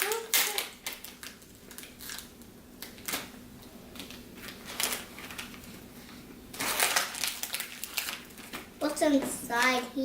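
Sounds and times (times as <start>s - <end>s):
plastic packaging crinkling: 0.0s - 5.9s, 6.5s - 8.9s.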